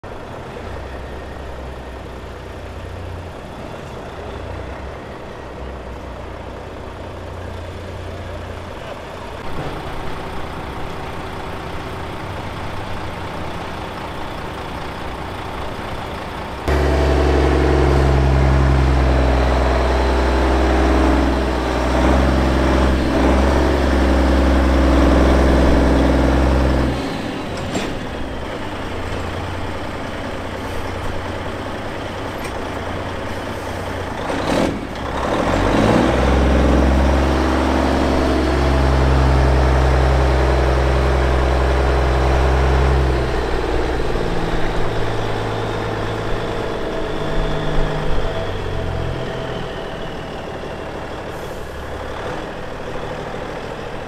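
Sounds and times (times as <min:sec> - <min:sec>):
diesel lorry engines running: 0:00.0 - 0:54.0
loud close engine: 0:00.0 - 0:54.0.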